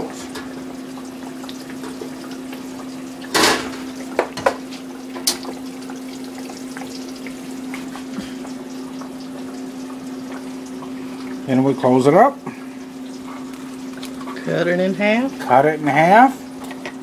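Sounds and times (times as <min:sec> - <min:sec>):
tomato slices sizzling in oil: 0:00.0 - 0:17.0.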